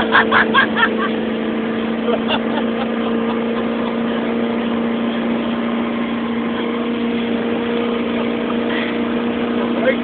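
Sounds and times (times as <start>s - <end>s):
motorboat engine running fast: 0.0s - 10.0s.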